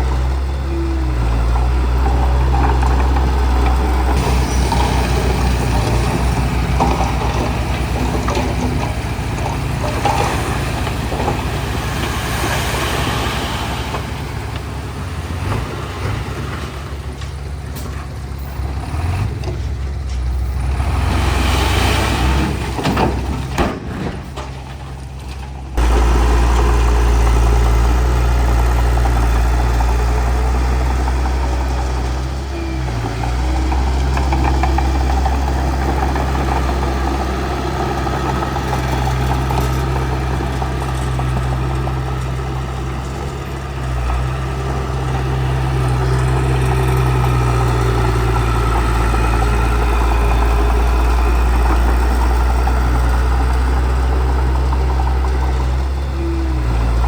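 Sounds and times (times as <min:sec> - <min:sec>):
diesel engine drone: 0:00.0 - 0:57.0.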